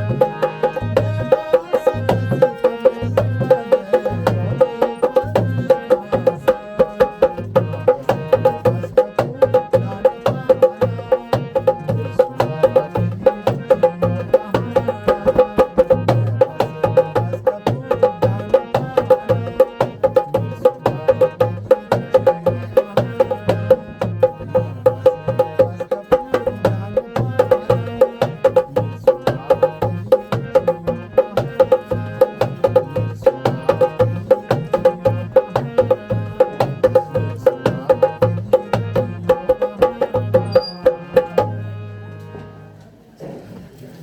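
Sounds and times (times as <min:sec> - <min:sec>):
instrumental music with hand percussion: 0:00.0 - 0:42.9.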